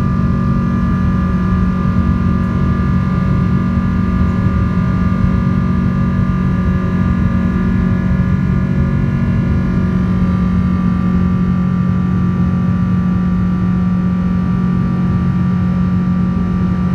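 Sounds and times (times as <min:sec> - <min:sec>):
jet engine drone inside cabin: 0:00.0 - 0:16.9.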